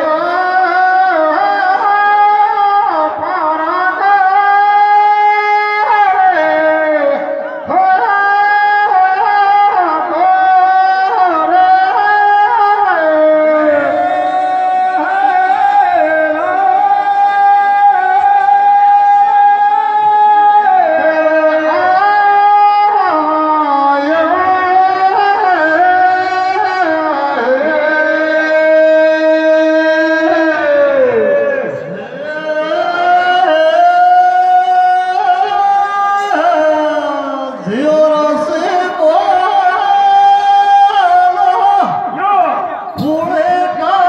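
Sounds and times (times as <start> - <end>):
man singing into a microphone: 0.0 - 44.0.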